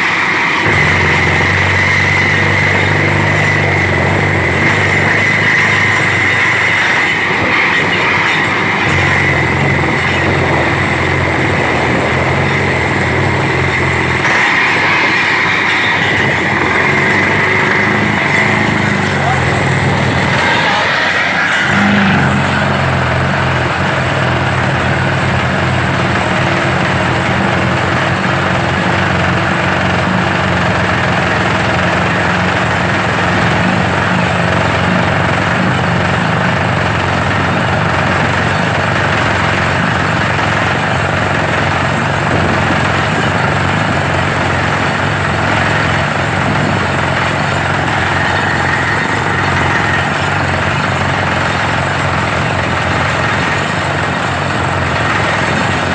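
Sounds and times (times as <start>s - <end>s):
drilling rig running: 0.0s - 55.9s.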